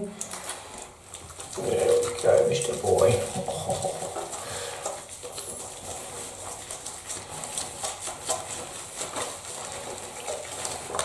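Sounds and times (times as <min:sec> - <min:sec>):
bathwater sloshing and splashing: 0:00.0 - 0:11.0
water dripping: 0:00.0 - 0:11.0.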